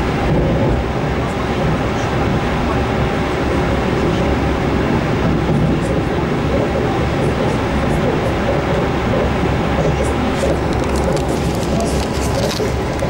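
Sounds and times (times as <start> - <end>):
train wheels and rail rumble: 0.0 - 13.0.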